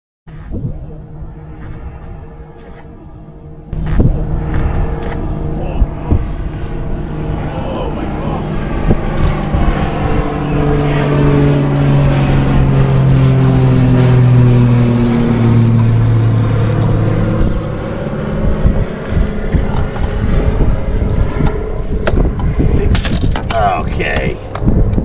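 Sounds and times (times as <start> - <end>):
passing motor engine drone: 0.3 - 23.1.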